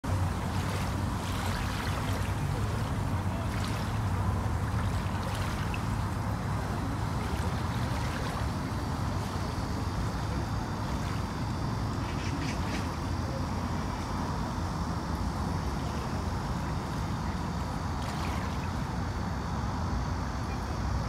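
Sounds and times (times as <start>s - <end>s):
small waves lapping at shore: 0.0s - 14.0s, 15.8s - 19.1s.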